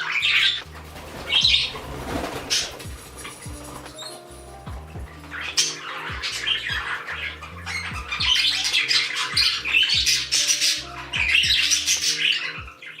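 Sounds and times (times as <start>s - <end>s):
background music with beat: 0.0s - 13.0s
parrot chattering and squawking: 0.0s - 13.0s.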